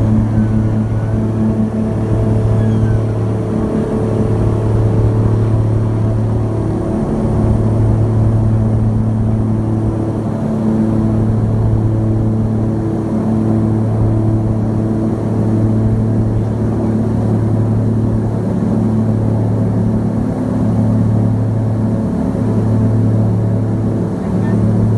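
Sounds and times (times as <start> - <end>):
propeller plane engines droning: 0.0 - 24.9.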